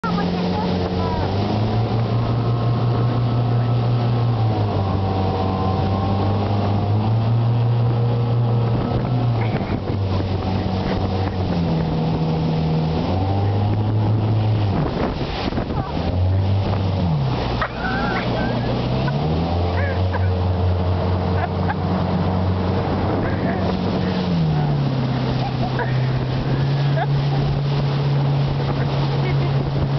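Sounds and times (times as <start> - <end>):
motorboat engine running: 0.0 - 29.9
rushing water of wake: 0.0 - 29.9.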